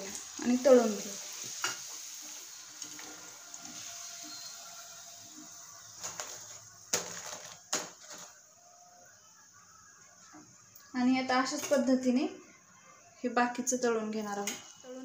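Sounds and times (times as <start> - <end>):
food sizzling in hot oil: 0.0 - 12.4.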